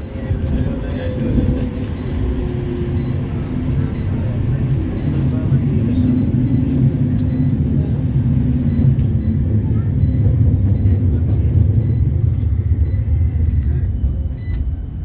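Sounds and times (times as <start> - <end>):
tram rumbling from inside: 0.0 - 15.0.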